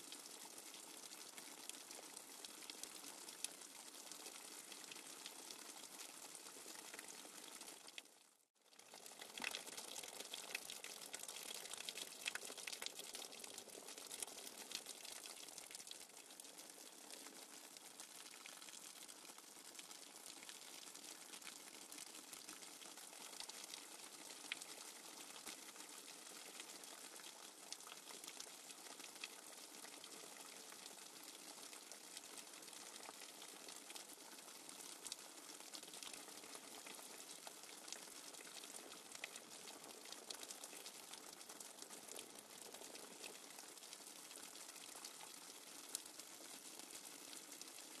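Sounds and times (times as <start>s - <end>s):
small crackles and ticks: 0.0s - 48.0s.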